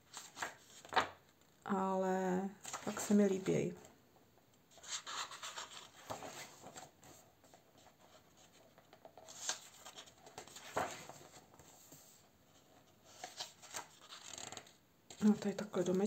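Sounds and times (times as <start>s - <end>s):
paper pages rustling: 0.1s - 1.2s, 2.6s - 3.4s, 4.7s - 16.0s.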